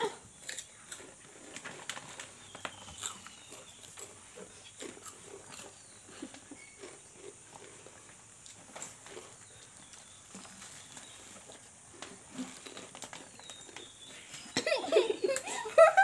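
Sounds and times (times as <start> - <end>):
children crunching snacks: 0.0 - 16.0.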